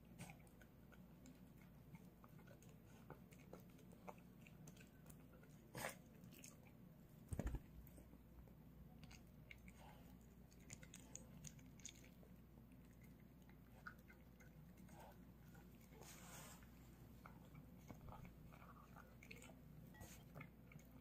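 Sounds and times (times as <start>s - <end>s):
dog chewing: 0.0s - 6.9s, 9.0s - 21.0s.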